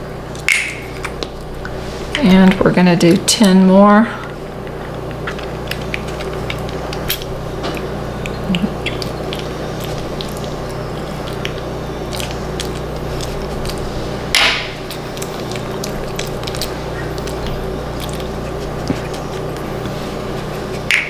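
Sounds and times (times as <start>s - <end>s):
background hum: 0.0s - 21.0s.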